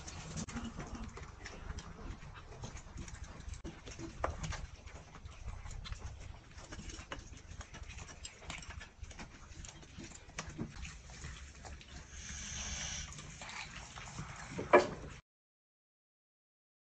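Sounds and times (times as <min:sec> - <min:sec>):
cats crunching dry kibble: 0:00.0 - 0:14.6.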